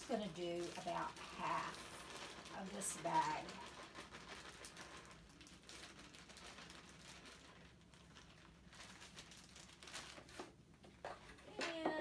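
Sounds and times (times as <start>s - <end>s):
plastic bag rustling: 0.0s - 11.5s.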